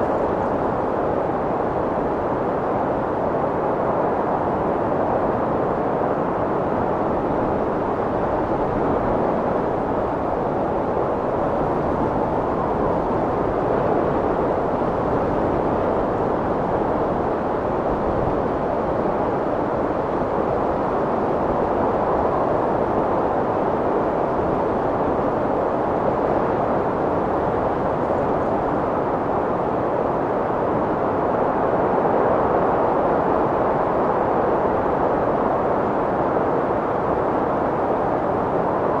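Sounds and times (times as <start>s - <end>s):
strong wind blowing: 0.0s - 39.0s.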